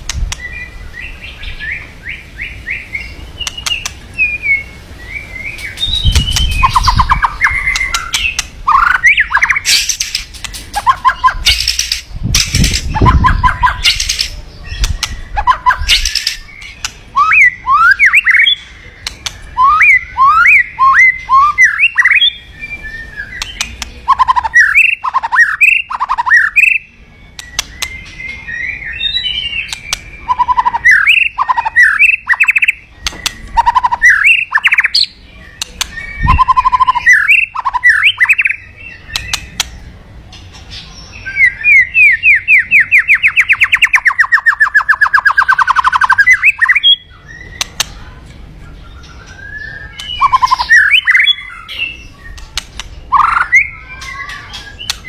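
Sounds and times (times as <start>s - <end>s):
harsh bird notes: 0.0s - 55.0s
bird singing whistled phrases: 0.4s - 10.2s, 12.9s - 39.7s, 41.0s - 47.8s, 48.7s - 55.0s.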